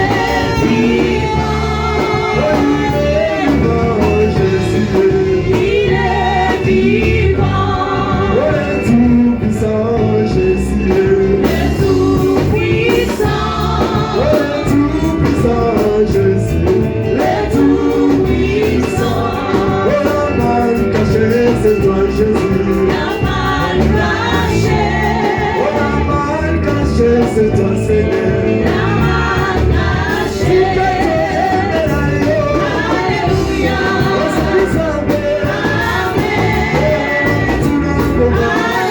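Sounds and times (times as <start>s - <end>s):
band with guitar: 0.0s - 38.9s
person singing: 0.0s - 38.9s.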